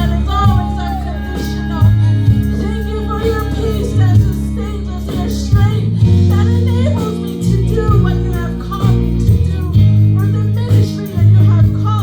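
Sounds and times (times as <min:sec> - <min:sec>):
guitar: 0:00.0 - 0:12.0
person singing: 0:00.0 - 0:12.0
sustained bass notes: 0:00.0 - 0:12.0.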